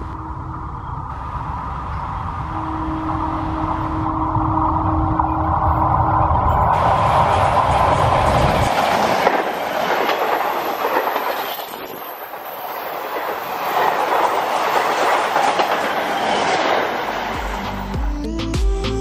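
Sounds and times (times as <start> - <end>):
train wheels rushing on rails: 0.0 - 18.1.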